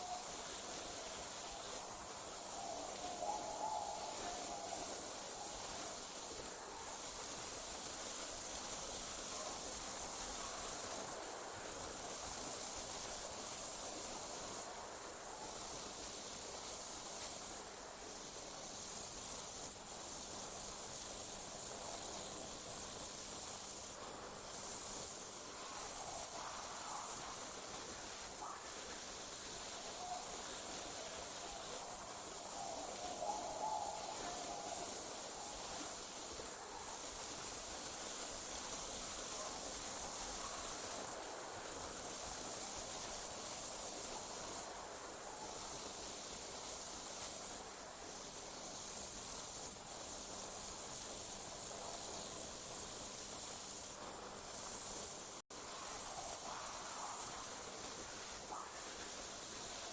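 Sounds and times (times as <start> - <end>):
crickets trilling: 0.0 - 14.7, 15.4 - 59.9.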